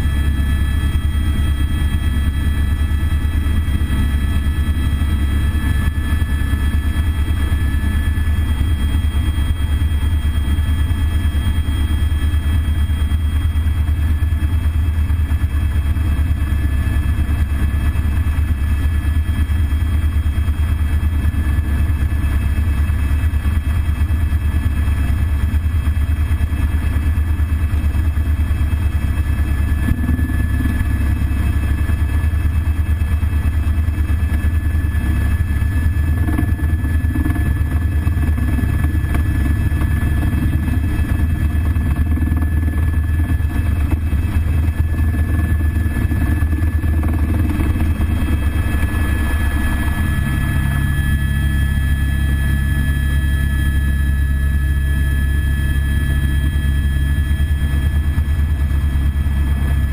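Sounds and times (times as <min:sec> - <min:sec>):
helicopter rotor drone: 0:00.0 - 0:59.9
high turbine whine: 0:00.0 - 0:59.9.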